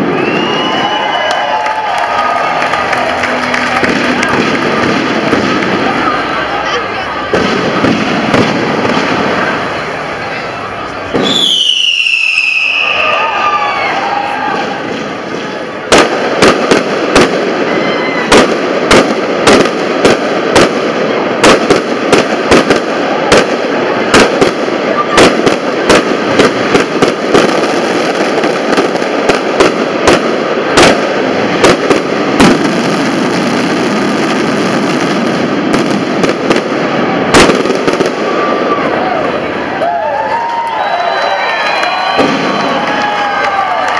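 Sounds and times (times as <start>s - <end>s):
fireworks bursting: 0.0s - 43.9s
steady background noise: 0.0s - 43.9s.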